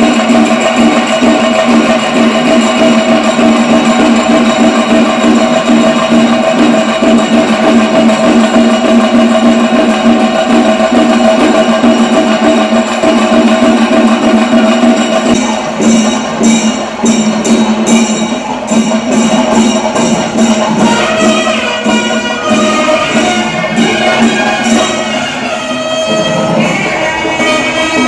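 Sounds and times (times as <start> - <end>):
drums: 0.0 - 28.0
sharp bright percussive strokes: 0.0 - 28.0.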